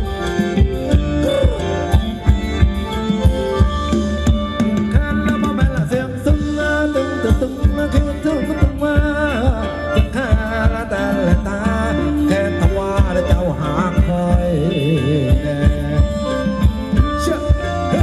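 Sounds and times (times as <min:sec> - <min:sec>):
live band dance music: 0:00.0 - 0:18.0
steady drum beat: 0:00.0 - 0:18.0.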